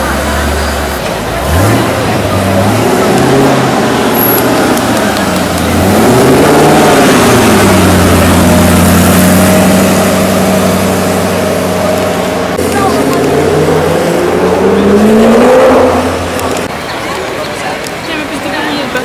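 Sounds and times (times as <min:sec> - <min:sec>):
car engine driving by: 0:00.0 - 0:18.0.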